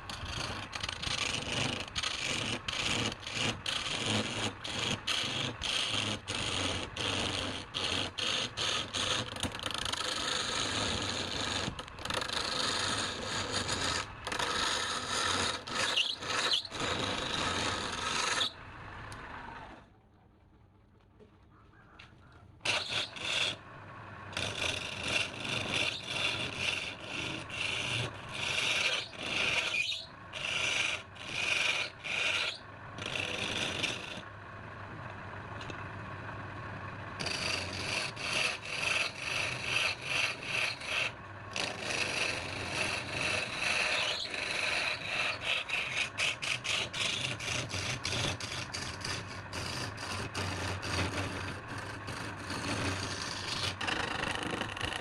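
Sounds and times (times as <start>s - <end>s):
hand tool scraping wood: 0.0s - 18.6s, 22.6s - 23.7s, 24.3s - 34.3s, 37.2s - 55.0s.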